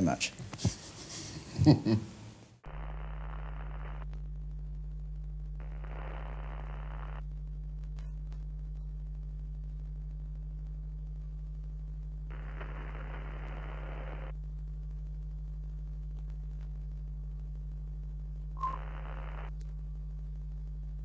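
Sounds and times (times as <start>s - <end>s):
low electrical hum: 0.0s - 21.0s
static hiss bursts: 2.3s - 21.0s.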